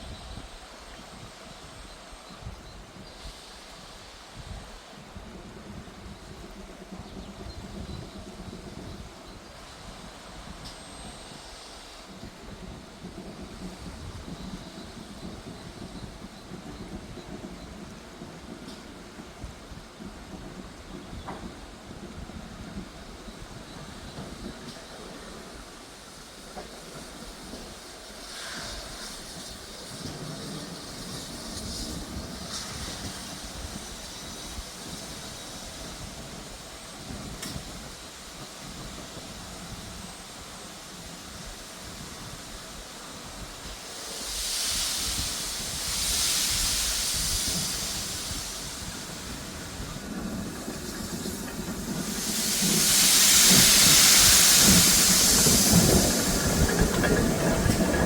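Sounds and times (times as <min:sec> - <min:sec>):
steam hissing: 0:00.0 - 0:58.0
steam locomotive rumble: 0:00.0 - 0:58.0.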